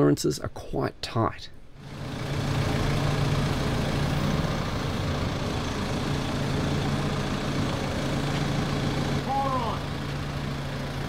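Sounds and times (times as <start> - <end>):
forklift engine idling: 1.8 - 11.0.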